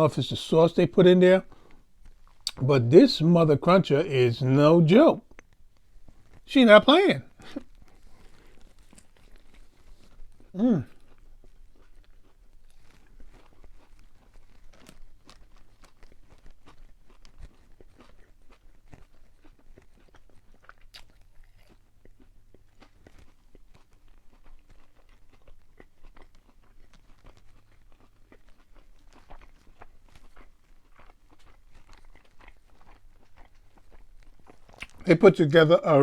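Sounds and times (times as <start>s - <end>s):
crunchy chewing: 0.4s - 36.0s.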